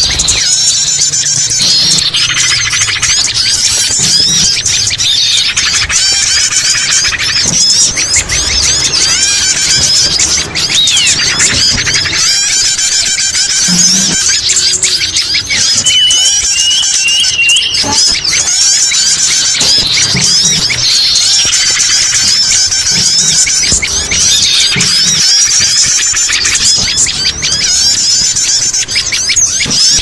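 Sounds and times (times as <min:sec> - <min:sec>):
arched bird whistle: 0:00.0 - 0:30.0
rapid buzzy bird trills: 0:00.0 - 0:30.0
songbirds chirping and twittering: 0:00.0 - 0:30.0.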